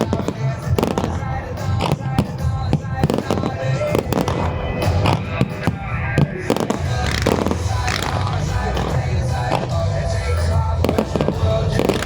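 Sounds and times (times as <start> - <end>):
fireworks banging: 0.0 - 12.0
music playing: 0.0 - 12.0.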